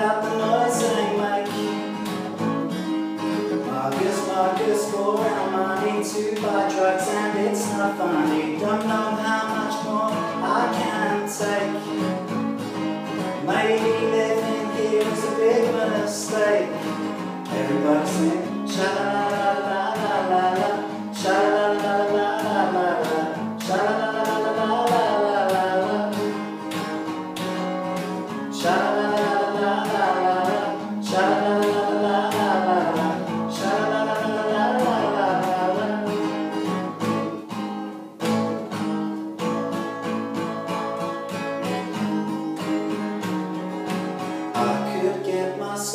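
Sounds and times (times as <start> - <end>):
man singing: 0.0 - 2.4, 3.2 - 27.0, 28.1 - 37.4, 44.4 - 45.9
acoustic guitar strumming: 0.0 - 45.9.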